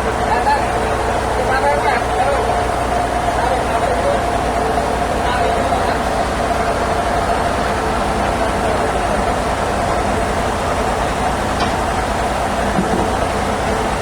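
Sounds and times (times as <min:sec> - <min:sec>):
band saw machinery running: 0:00.0 - 0:14.0.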